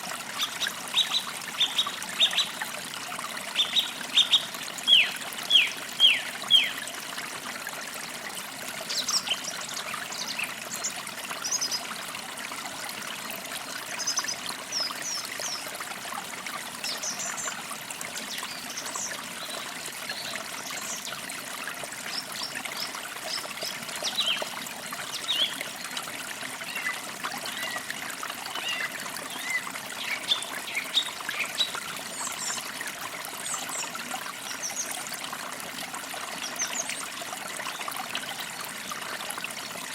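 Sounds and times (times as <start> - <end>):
forest creek trickling: 0.0 - 39.9.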